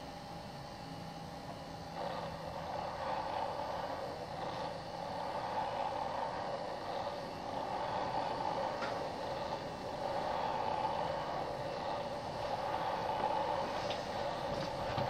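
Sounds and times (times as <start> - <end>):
steady droning noise: 0.0 - 15.0.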